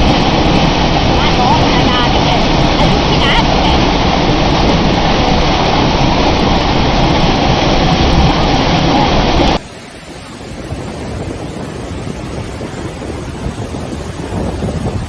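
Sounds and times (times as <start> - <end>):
rushing floodwater: 0.0 - 15.0
wind buffeting microphone: 0.0 - 15.0.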